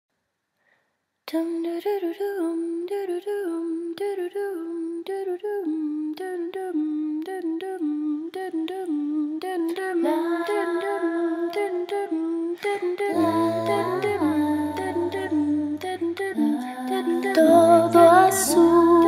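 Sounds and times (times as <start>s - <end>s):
layered female a cappella humming: 1.3s - 19.0s.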